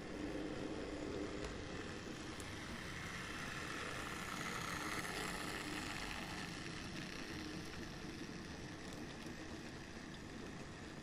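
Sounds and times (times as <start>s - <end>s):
model train motors whirring: 0.0s - 11.0s.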